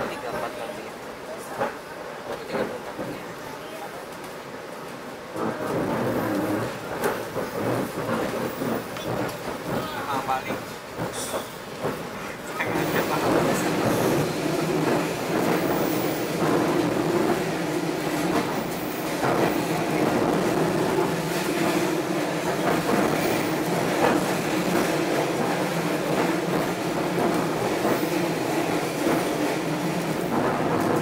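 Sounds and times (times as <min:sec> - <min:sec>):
train wheels rumbling on rails: 0:00.0 - 0:31.0
clacks over rail joints: 0:05.4 - 0:31.0.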